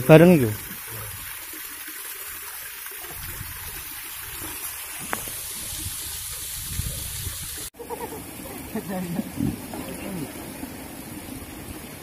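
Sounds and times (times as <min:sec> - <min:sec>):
river water trickling into pool: 0:00.0 - 0:12.0.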